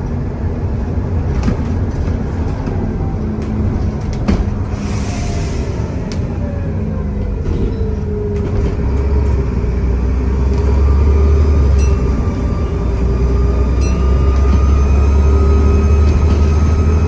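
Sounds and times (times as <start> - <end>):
deep bus engine drone: 0.0 - 17.0.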